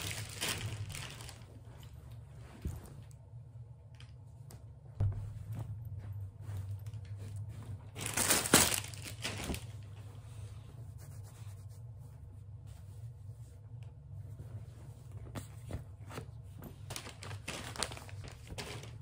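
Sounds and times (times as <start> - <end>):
clothes rustling: 0.0 - 3.4, 4.5 - 19.0.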